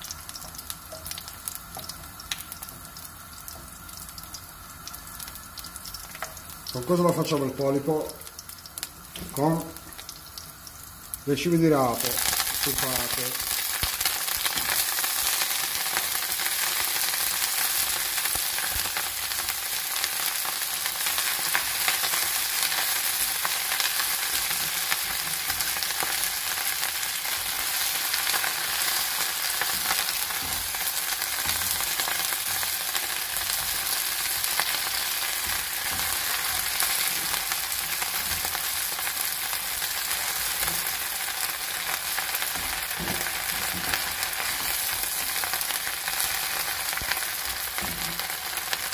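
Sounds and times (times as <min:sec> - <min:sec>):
greens sizzling in frying pan: 0:00.0 - 0:48.9.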